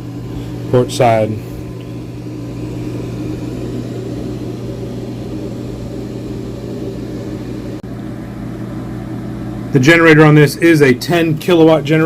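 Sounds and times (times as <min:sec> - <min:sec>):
engine room machinery hum: 0:00.0 - 0:12.0.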